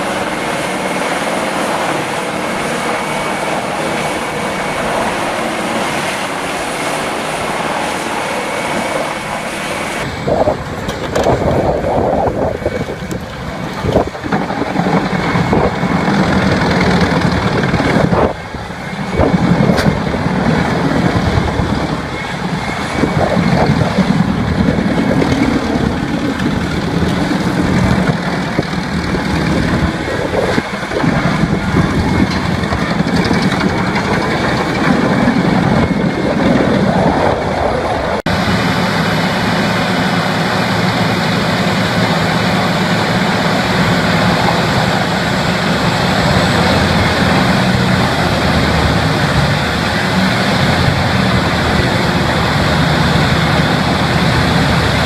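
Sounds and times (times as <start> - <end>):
heavy machinery engine: 0.0 - 55.0.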